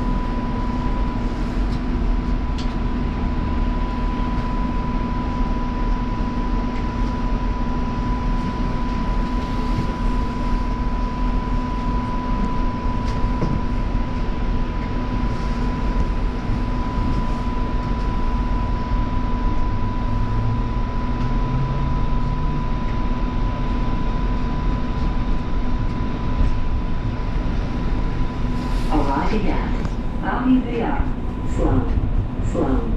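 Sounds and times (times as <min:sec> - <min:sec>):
constant high hum: 0:00.0 - 0:32.9
light rail wheel and running noise: 0:00.0 - 0:32.9.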